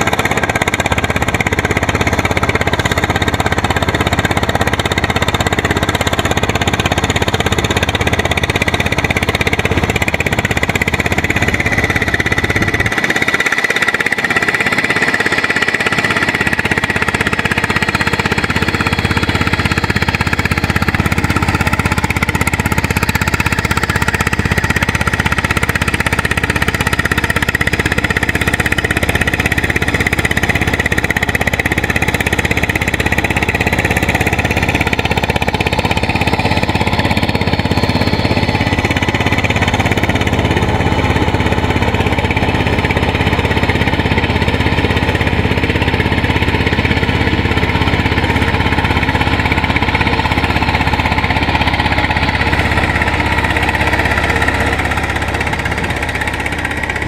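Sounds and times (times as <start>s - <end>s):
diesel engine knocking: 0.0s - 57.0s.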